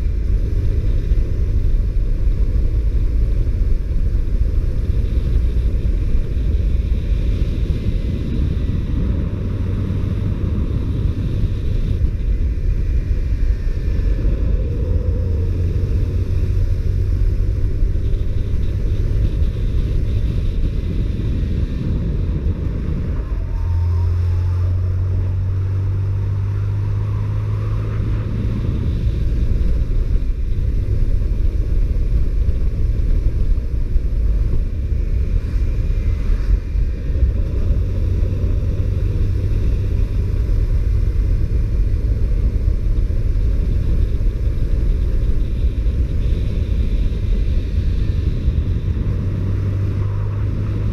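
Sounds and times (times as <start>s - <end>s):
motorcycle engine running: 0.0s - 50.9s
wind noise on microphone: 0.0s - 50.9s.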